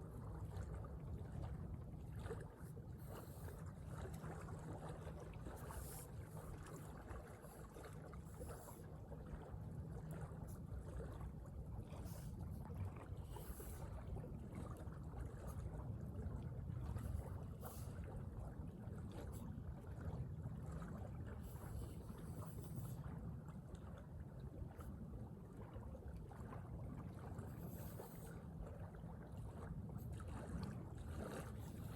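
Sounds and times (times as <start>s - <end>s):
faint hum: 0.0s - 31.9s
wind rumble on microphone: 0.0s - 31.9s.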